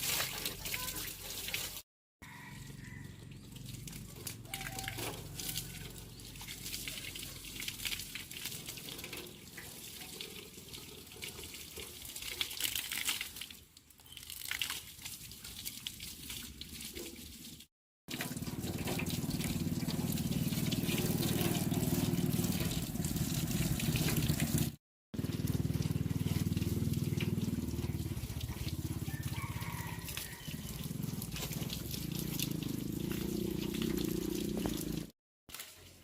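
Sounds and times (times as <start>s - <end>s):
water running and splashing: 0.0s - 1.9s, 2.8s - 36.0s.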